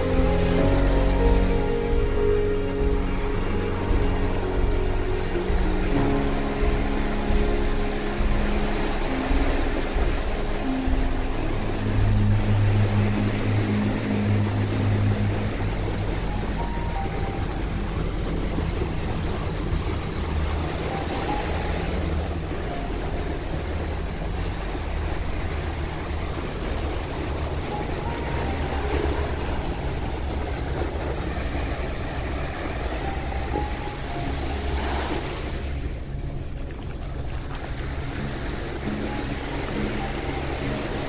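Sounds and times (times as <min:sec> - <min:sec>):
small waves washing on shore: 0:00.0 - 0:41.0
steady low rumble: 0:00.0 - 0:41.0.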